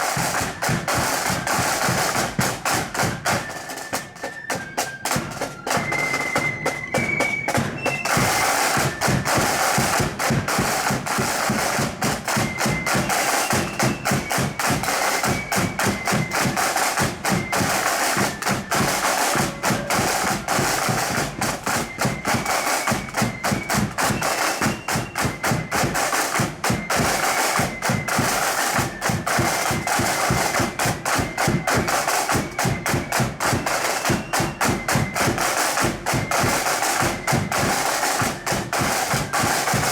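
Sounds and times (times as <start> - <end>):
marching flute band: 0.0 - 39.9.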